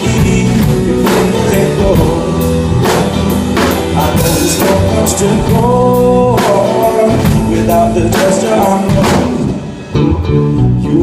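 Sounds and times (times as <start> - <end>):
drum kit beat: 0.0 - 10.5
guitar: 0.0 - 11.0
person singing: 0.0 - 11.0.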